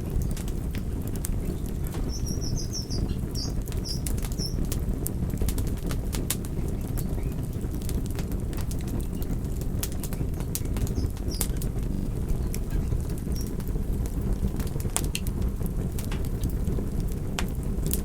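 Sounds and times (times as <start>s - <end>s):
fire crackles and pops: 0.0s - 18.0s
flames fluttering: 0.0s - 18.0s.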